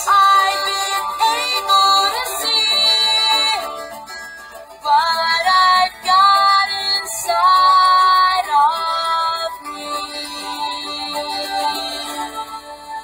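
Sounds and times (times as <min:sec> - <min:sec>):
high voice singing: 0:00.0 - 0:04.0, 0:04.8 - 0:13.0
instrumental backing music: 0:00.0 - 0:13.0.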